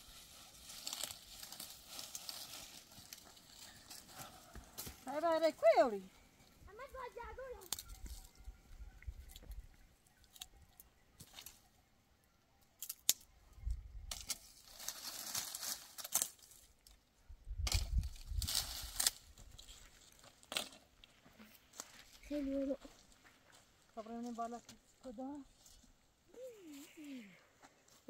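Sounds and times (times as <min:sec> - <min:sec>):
dry brush crackling and rustling: 0:00.0 - 0:11.7, 0:14.1 - 0:16.9, 0:17.6 - 0:26.0.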